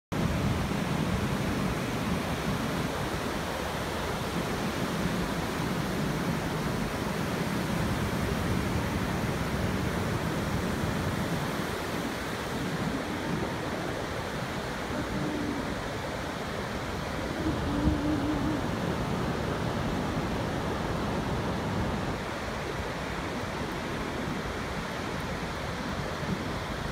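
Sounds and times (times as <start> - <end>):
ocean surf breaking: 0.2 - 26.9.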